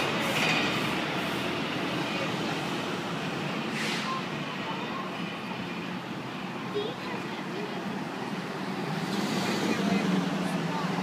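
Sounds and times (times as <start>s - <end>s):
engine and tyre noise: 0.0s - 11.0s.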